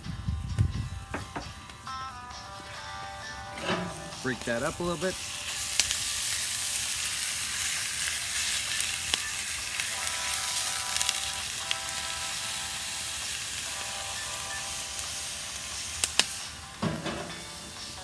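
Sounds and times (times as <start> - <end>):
faint background music: 0.0 - 18.0
ground beef sizzling in a pan: 1.9 - 18.0.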